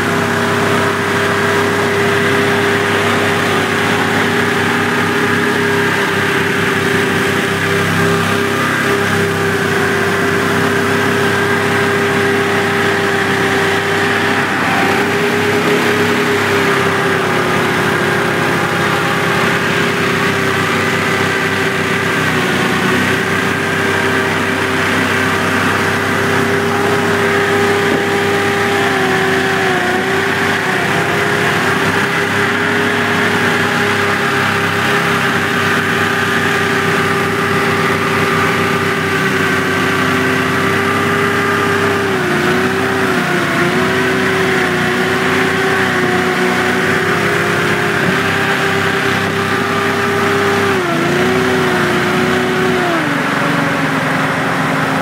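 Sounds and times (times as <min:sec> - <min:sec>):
hovercraft engine and fan drone: 0:00.0 - 0:55.0.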